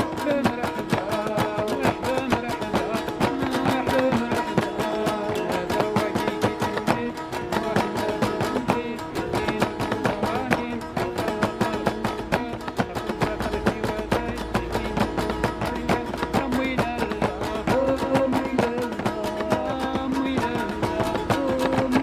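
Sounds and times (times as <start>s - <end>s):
fast percussion beat: 0.0s - 22.0s
plucked string melody: 0.0s - 22.0s.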